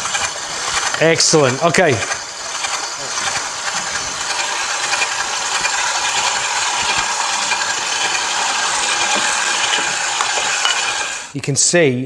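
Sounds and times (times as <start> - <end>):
stand mixer grinding meat: 0.0 - 11.4.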